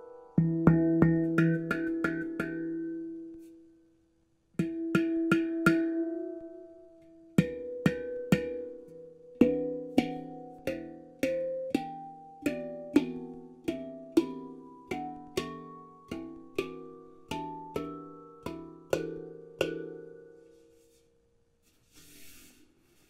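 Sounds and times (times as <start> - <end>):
handpan notes ringing: 0.0 - 3.5, 4.6 - 20.9.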